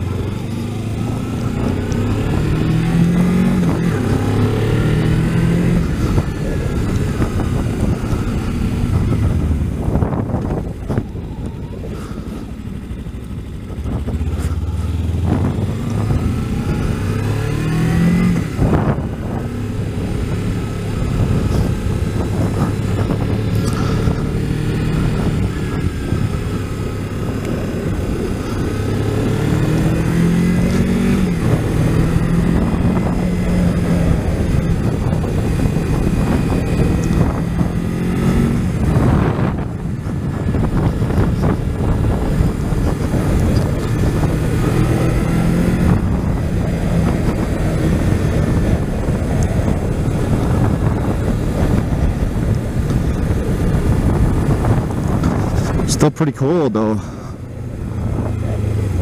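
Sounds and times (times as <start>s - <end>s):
motorcycle engine accelerating: 0.0s - 59.0s
wind noise on microphone: 0.0s - 59.0s.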